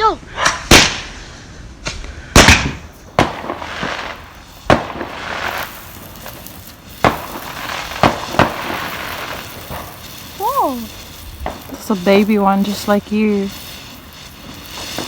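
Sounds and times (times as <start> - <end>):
fireworks crackling hiss: 0.0 - 15.0
fireworks bangs: 0.4 - 15.0.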